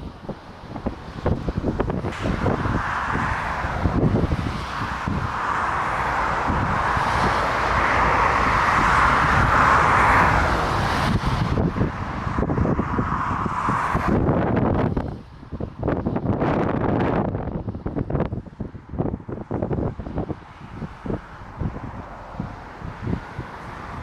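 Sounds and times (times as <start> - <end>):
jet airliner engines passing: 0.0 - 24.0
wind buffeting microphone: 0.0 - 24.0.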